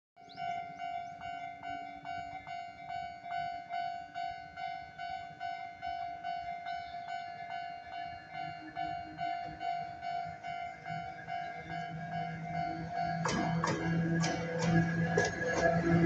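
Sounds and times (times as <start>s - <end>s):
level-crossing warning bell ringing: 0.2s - 16.0s.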